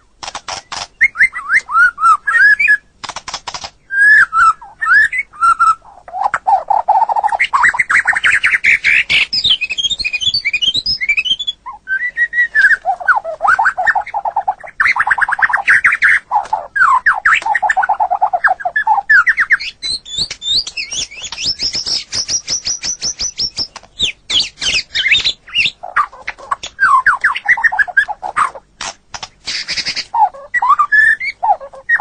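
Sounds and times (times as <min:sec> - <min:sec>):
bird singing trills: 0:00.5 - 0:03.0, 0:03.8 - 0:28.8, 0:29.4 - 0:32.0.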